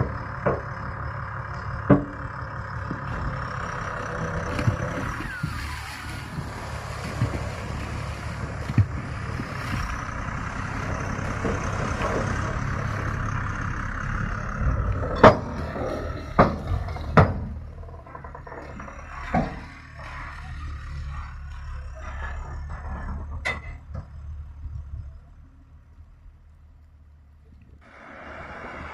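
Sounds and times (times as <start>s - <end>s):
loud metallic clanks: 0.0s - 24.2s
diesel engine running: 0.0s - 28.9s.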